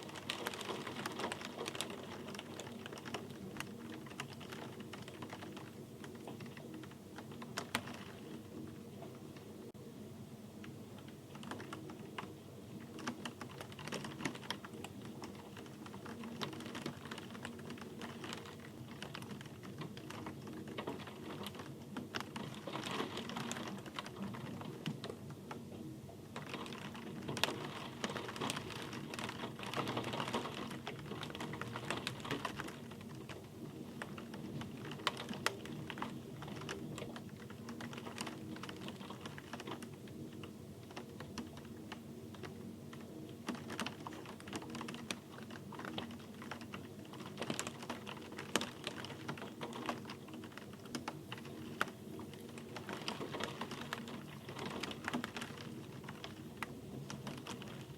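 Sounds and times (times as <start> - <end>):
raindrops ticking on hard surface: 0.0 - 9.5, 10.6 - 57.9
steady rain hiss: 0.0 - 57.9.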